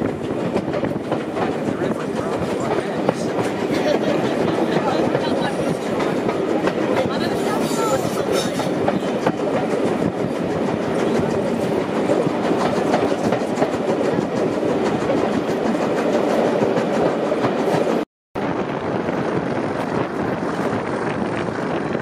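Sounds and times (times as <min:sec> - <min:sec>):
train wheels clattering on rail: 0:00.0 - 0:18.0.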